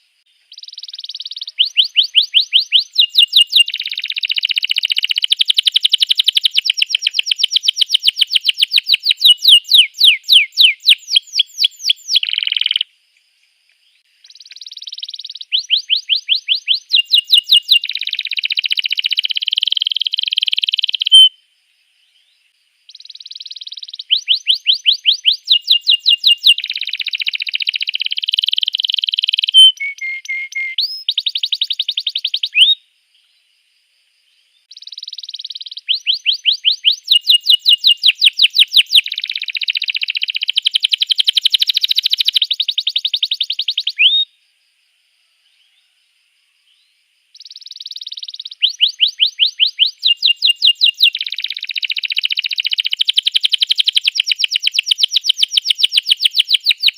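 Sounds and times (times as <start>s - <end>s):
canary singing trills: 0.4s - 12.9s, 13.9s - 21.4s, 22.0s - 32.8s, 34.7s - 44.3s, 47.4s - 56.9s.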